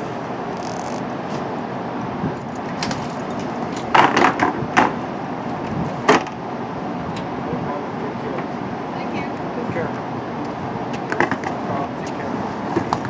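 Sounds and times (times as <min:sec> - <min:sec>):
standing train rumble: 0:00.0 - 0:13.0.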